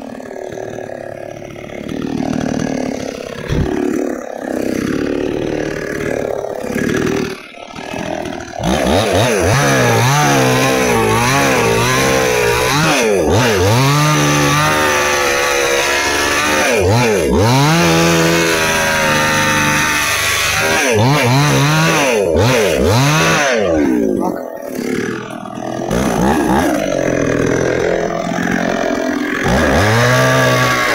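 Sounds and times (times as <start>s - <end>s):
chainsaw cutting log: 0.0s - 30.9s.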